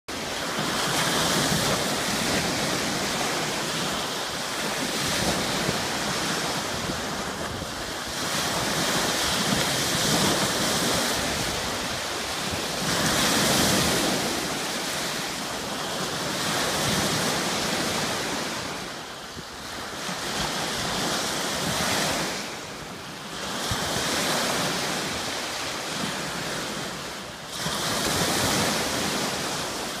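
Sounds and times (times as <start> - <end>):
waves breaking on a beach: 0.1 - 30.0.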